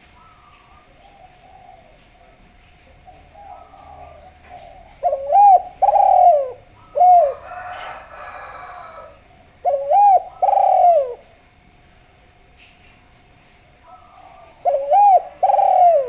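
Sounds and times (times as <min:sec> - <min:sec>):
dove cooing: 0:00.0 - 0:11.6, 0:13.8 - 0:16.0.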